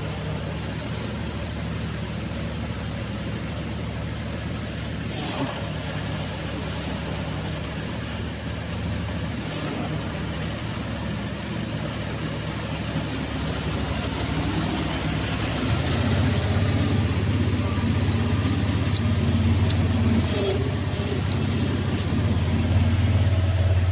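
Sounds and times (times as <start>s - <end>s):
loader engine running: 0.0s - 23.9s.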